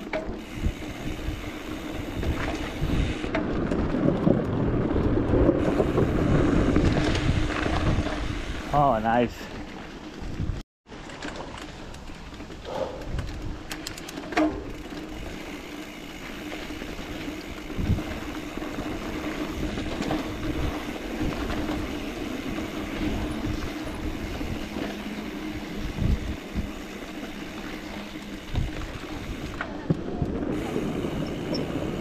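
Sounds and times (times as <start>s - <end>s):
mountain bike rolling on dirt: 0.0s - 32.0s.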